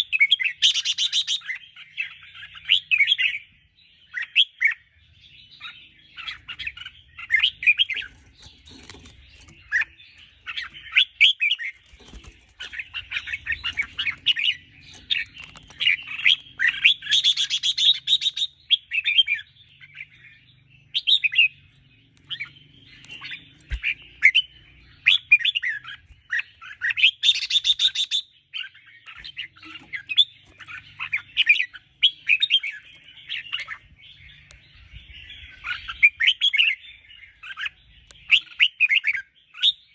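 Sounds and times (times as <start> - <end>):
bulbul singing warbled phrases: 5.6 - 39.8.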